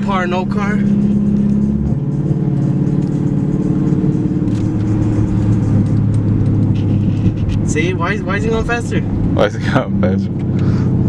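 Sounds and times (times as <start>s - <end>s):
music playing: 0.0s - 10.2s
engine and road drone: 0.0s - 11.0s.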